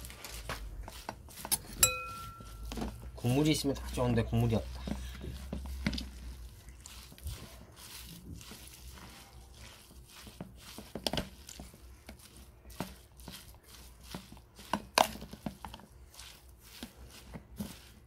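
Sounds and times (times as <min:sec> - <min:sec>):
spoon scraping a plastic bowl: 0:00.0 - 0:18.0.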